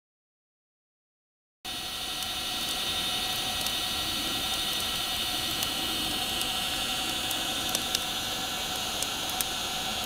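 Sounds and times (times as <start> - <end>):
steam hissing: 1.7 - 10.0.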